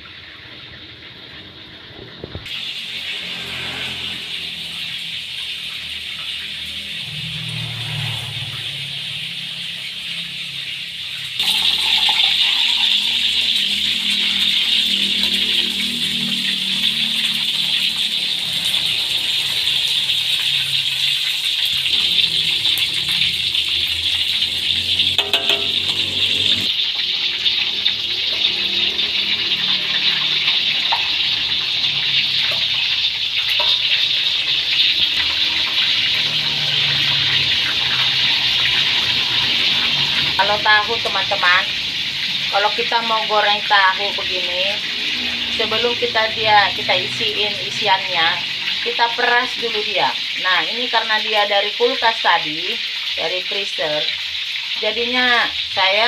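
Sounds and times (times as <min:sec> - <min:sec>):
loud oil sizzle: 0:00.0 - 0:56.0.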